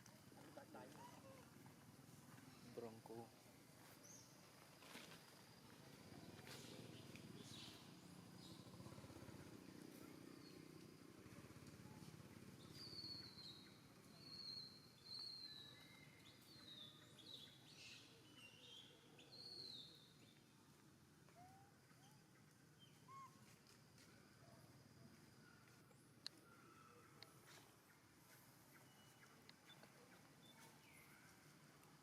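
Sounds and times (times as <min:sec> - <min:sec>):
faint outdoor ambience: 0:00.0 - 0:32.0.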